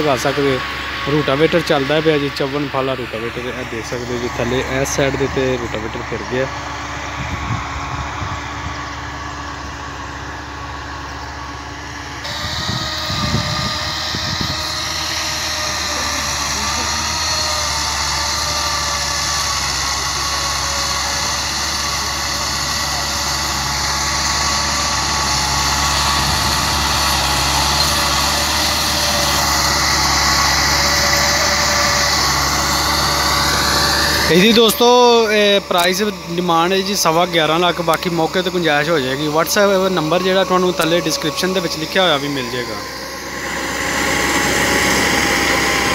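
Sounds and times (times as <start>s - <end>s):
diesel tractor engine droning: 0.0s - 45.9s.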